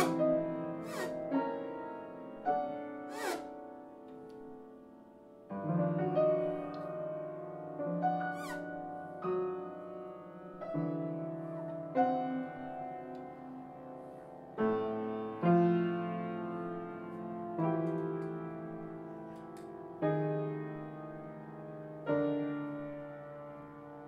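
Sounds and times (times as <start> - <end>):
piano chords ringing: 0.0 - 24.0.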